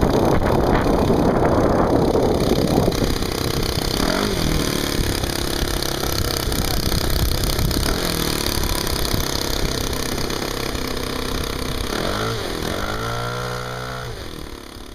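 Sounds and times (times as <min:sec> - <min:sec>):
model airplane engine running: 0:00.0 - 0:14.9.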